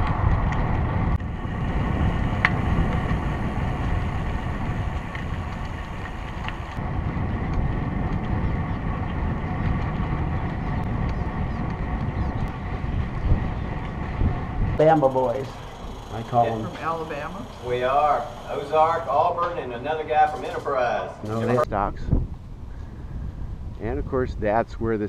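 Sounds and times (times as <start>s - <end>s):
tyre and road noise: 0.0s - 21.6s
wind buffeting microphone: 0.0s - 25.0s.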